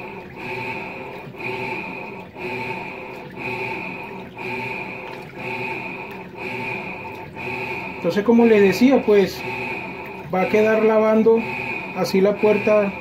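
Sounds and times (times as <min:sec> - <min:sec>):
washing machine motor whine: 0:00.0 - 0:13.0
water sloshing: 0:00.0 - 0:13.0.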